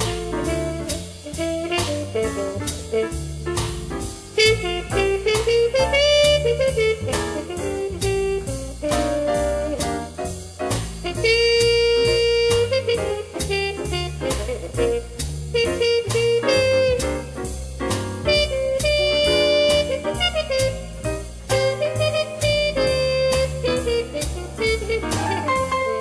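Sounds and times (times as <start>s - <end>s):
horn playing solo line: 0.0s - 3.4s, 4.4s - 9.9s, 11.1s - 17.5s, 18.2s - 26.0s
jazz rhythm section with bass: 0.0s - 26.0s.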